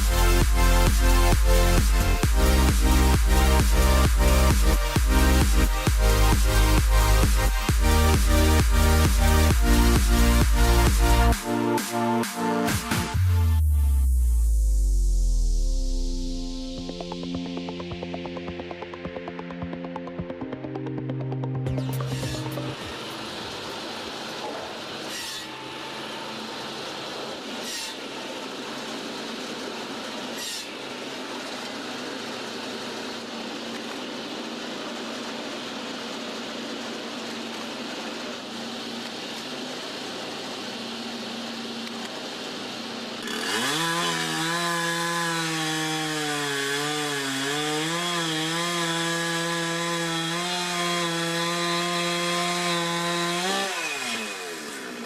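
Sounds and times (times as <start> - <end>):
power saw cutting wood: 0.0 - 14.0, 15.3 - 55.0
chainsaw running: 0.0 - 55.0.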